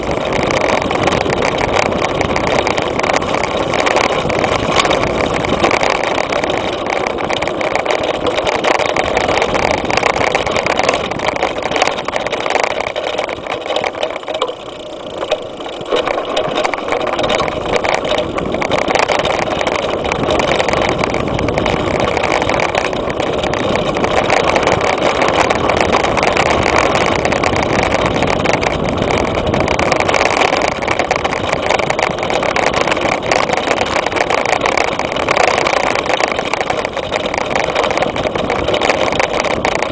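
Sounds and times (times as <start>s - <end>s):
bike rattling: 0.0s - 39.9s
bike tyre rumble: 0.0s - 39.9s
wind rush on microphone: 0.0s - 39.9s.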